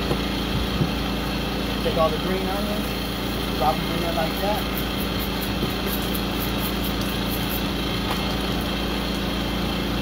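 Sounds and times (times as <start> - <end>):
generator engine running: 0.0 - 10.0.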